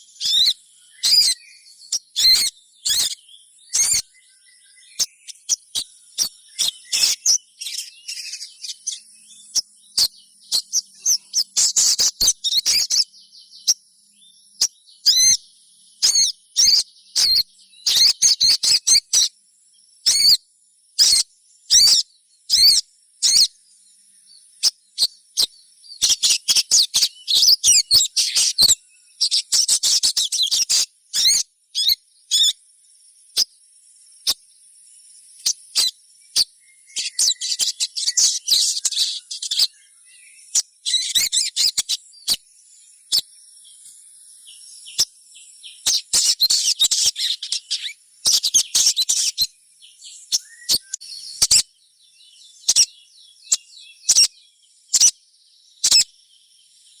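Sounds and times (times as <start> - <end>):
young bird chirping: 0.0 - 19.4, 20.0 - 20.4, 21.0 - 23.6, 24.2 - 32.6, 35.3 - 56.2.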